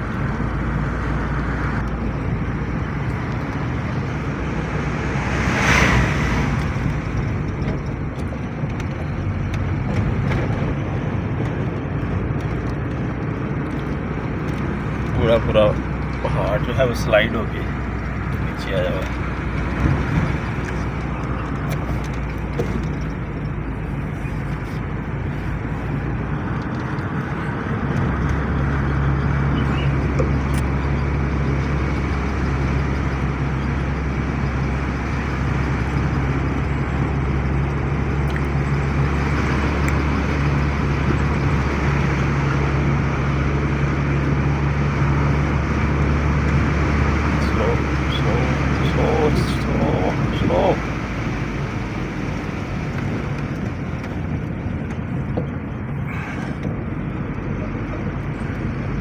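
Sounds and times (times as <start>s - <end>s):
tyre and road noise: 0.0s - 59.0s
vehicle engine running: 0.0s - 59.0s.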